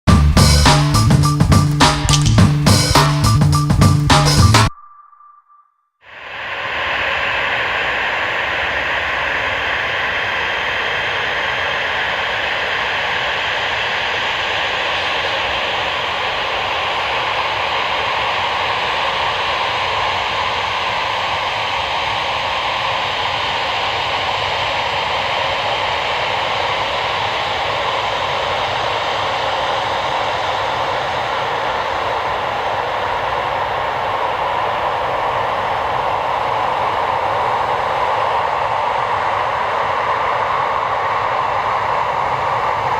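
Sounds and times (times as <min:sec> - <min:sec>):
jet engines running: 0:00.2 - 0:04.7, 0:06.1 - 0:42.9
faint high whine: 0:00.9 - 0:42.9.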